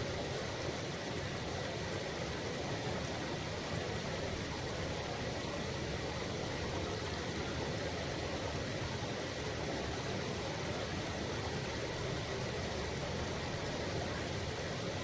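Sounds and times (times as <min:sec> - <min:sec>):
river babbling: 0:00.0 - 0:15.0.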